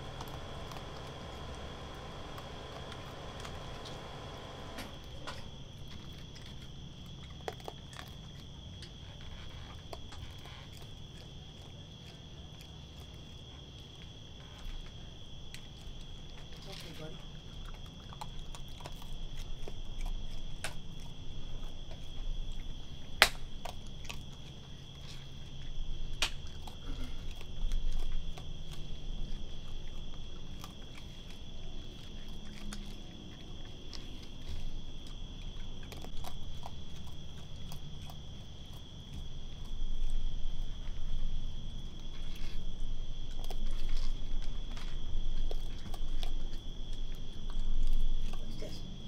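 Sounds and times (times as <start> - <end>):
night insects chorus: 0.0 - 49.0
raccoon crunching kibble: 0.0 - 49.0.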